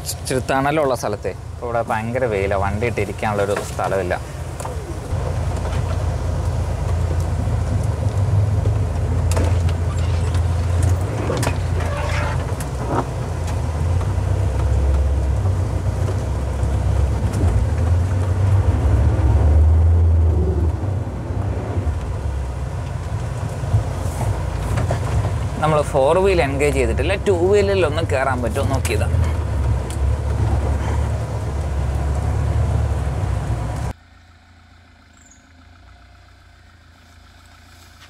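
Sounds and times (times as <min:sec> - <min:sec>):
diesel engine pulling hard: 0:00.0 - 0:38.0.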